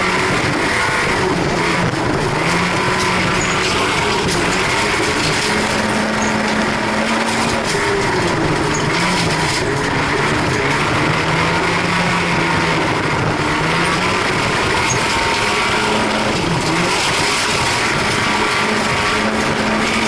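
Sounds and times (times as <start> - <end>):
car engine running hard: 0.0 - 20.0.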